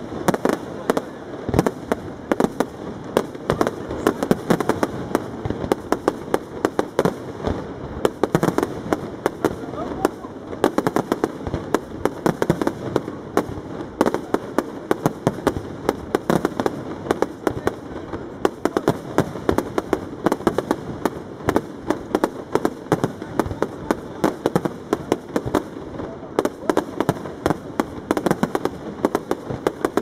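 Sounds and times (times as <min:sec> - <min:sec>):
firework crackling: 0:00.0 - 0:30.0.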